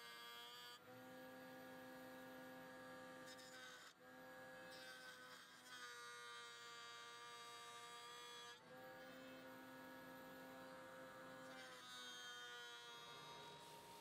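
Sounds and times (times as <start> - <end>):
router whining: 0.0 - 14.0.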